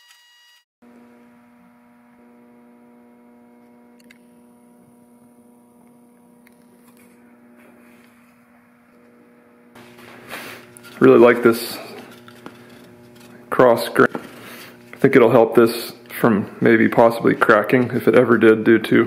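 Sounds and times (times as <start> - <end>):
electrical mains hum: 0.9 - 19.0.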